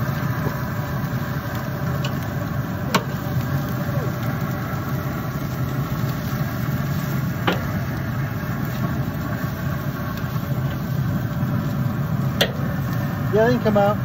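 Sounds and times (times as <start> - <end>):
low mechanical hum: 0.0 - 14.0
steaks sizzling on a grill: 0.0 - 14.0.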